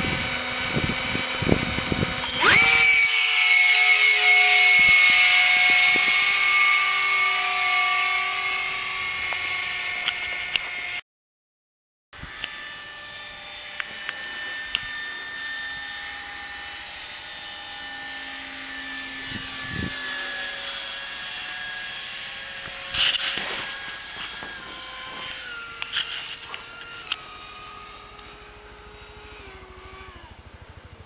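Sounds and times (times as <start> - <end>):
model jet fan whine: 0.0 - 11.0, 12.2 - 31.0.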